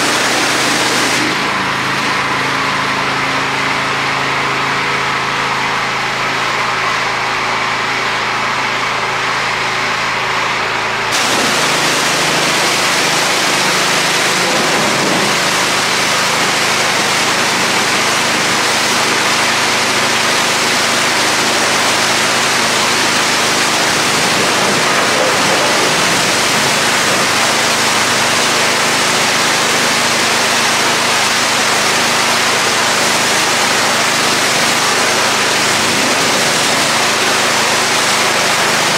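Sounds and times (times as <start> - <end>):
high-pressure jet spraying concrete: 0.0 - 6.8, 11.1 - 38.9
pressure washer motor: 0.0 - 38.9.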